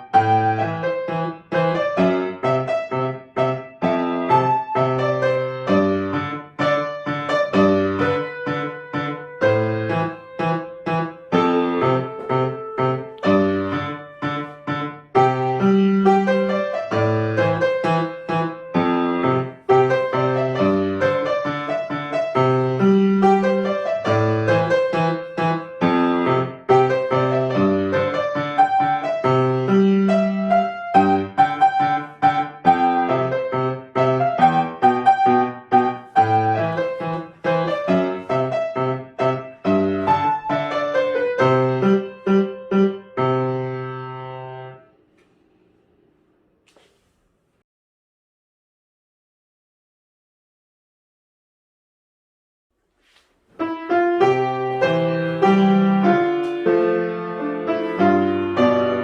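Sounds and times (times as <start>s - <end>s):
solo piano piece: 0.0s - 45.7s, 53.1s - 59.0s.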